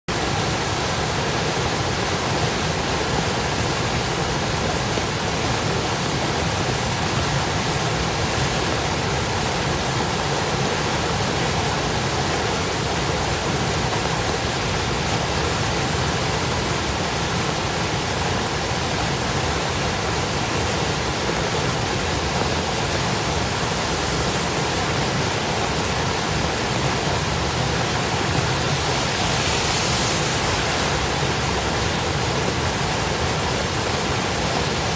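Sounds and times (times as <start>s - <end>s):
floodwater rushing: 0.2s - 34.9s.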